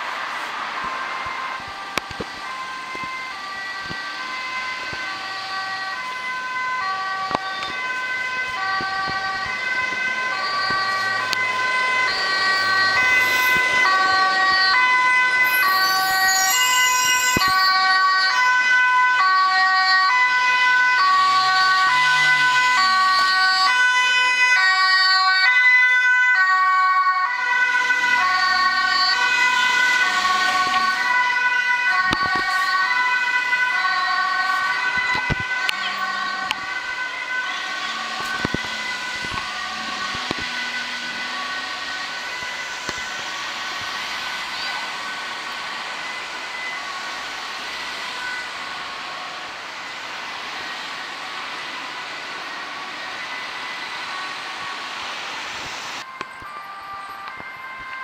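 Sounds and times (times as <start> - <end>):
ambulance two-tone siren: 0.0 - 58.0
road traffic noise: 0.0 - 58.0.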